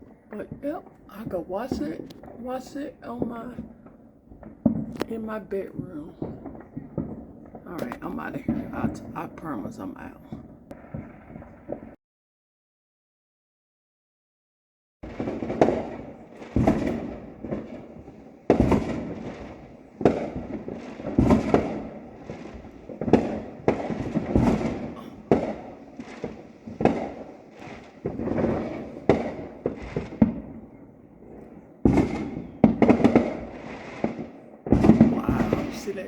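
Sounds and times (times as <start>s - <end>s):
fireworks exploding: 0.0s - 12.0s, 15.0s - 36.0s.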